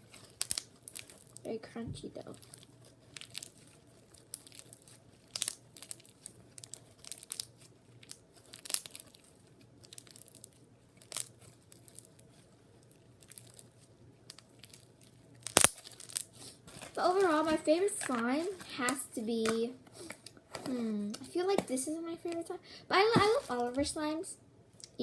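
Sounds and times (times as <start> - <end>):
crunchy slime crackling and popping: 0.0 - 24.2.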